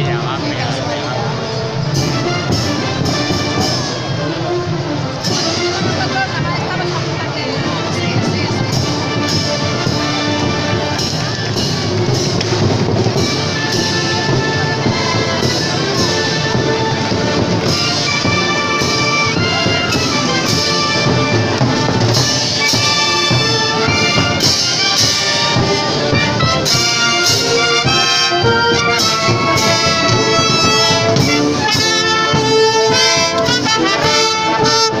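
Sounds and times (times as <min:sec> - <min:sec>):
marching band playing: 0:00.0 - 0:35.0
steady drum beat: 0:01.9 - 0:06.8, 0:07.9 - 0:35.0.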